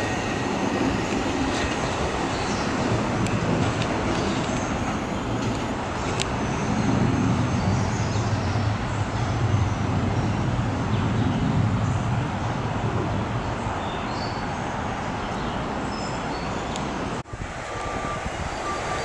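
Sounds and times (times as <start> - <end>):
electric train rumbling: 0.0 - 19.0
road traffic: 0.0 - 19.0.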